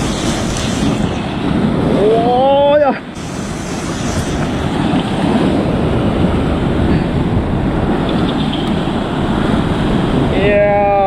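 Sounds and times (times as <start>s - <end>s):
rushing wind: 0.0s - 11.0s
sea noise: 0.0s - 11.0s.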